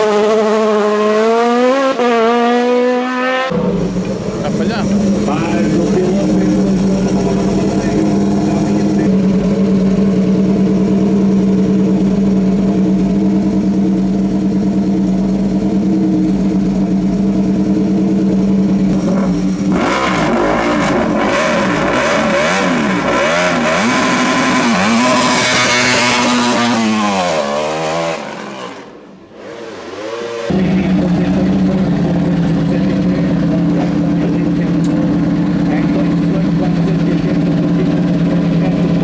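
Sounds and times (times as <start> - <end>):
race car engine accelerating: 0.0 - 39.0.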